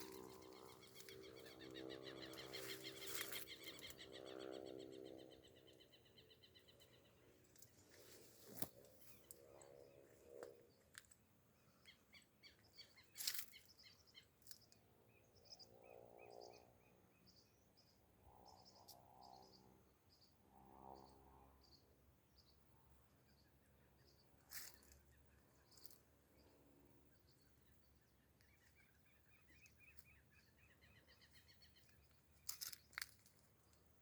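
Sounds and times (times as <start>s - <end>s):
faint birdsong chirps: 0.0s - 34.0s.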